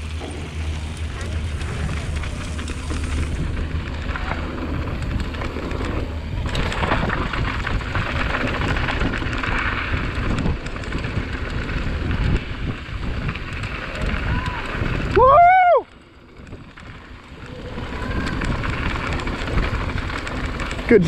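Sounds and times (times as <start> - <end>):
bike clicks and rattles: 0.0 - 21.0
tyres rolling over gravel: 0.0 - 21.0
wind rushing over microphone: 0.0 - 21.0.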